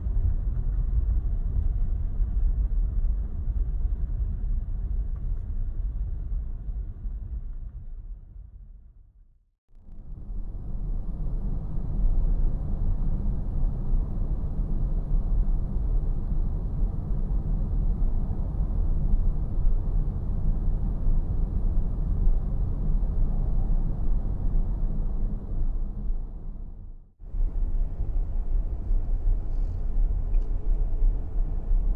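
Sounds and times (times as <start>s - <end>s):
low street ambience rumble: 0.0s - 31.9s.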